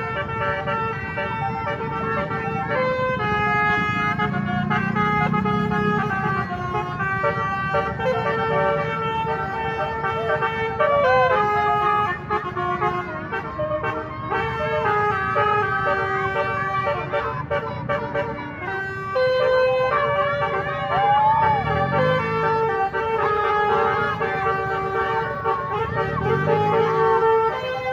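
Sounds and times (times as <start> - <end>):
bus horn playing melody: 0.0 - 27.9.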